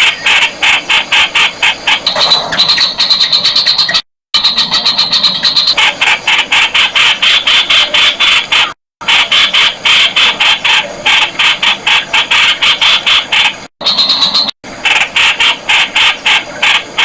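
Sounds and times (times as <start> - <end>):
bird calling harsh notes: 0.0 - 16.9.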